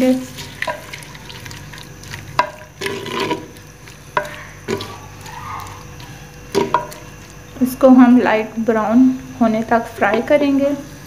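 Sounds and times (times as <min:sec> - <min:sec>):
onions sizzling in oil: 0:00.0 - 0:09.3.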